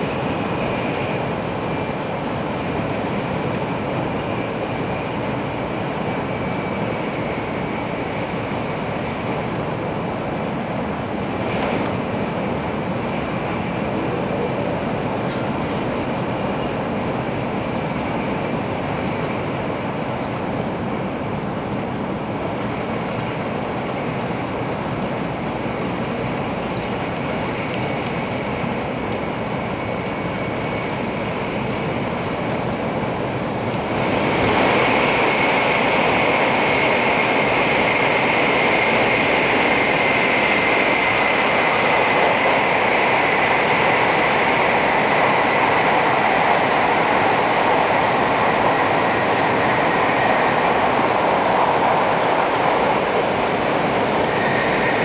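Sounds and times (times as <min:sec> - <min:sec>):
train cabin running noise: 0:00.0 - 0:55.0.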